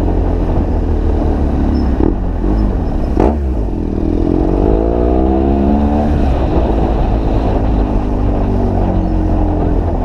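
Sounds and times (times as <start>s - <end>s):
motorcycle engine accelerating: 0.0s - 10.0s
wind noise on microphone: 0.0s - 10.0s.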